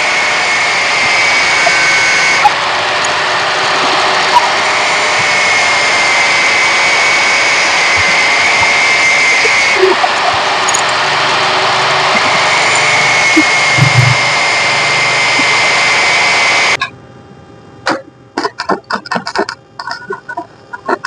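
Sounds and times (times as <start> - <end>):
loud rushing noise with whine: 0.0 - 19.9.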